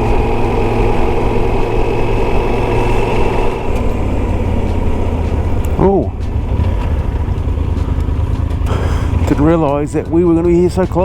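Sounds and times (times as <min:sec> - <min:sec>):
low rumble: 0:00.0 - 0:11.0
motorcycle engine running: 0:00.0 - 0:11.0.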